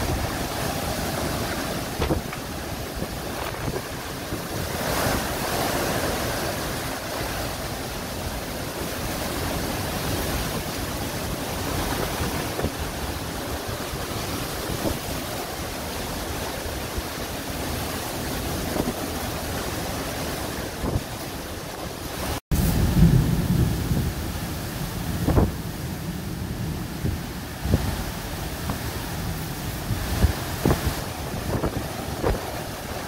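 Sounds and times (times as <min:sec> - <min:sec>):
heavy driving rain: 0:00.0 - 0:33.0
strong wind blowing: 0:00.0 - 0:33.0.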